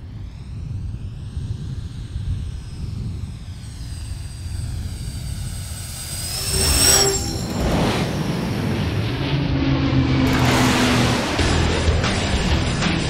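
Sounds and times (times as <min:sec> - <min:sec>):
high whines sliding in pitch: 0:00.0 - 0:12.6
aircraft rumble: 0:00.0 - 0:13.0.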